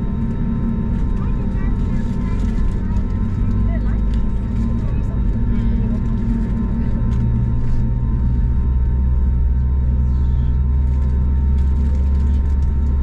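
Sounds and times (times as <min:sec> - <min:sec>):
constant whine: 0:00.0 - 0:13.0
jet engine drone: 0:00.0 - 0:13.0.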